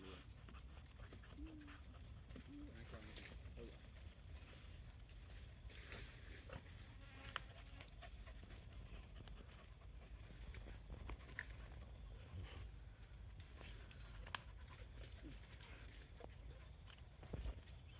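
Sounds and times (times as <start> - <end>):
dogs digging in soil: 0.0 - 17.9.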